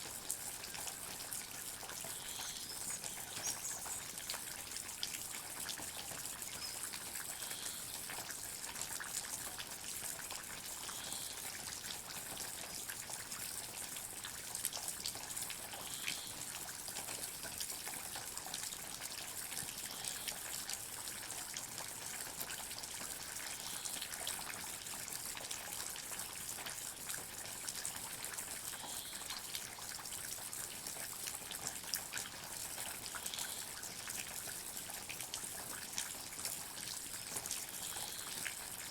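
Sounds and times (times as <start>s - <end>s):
water dripping and trickling: 0.0s - 38.9s.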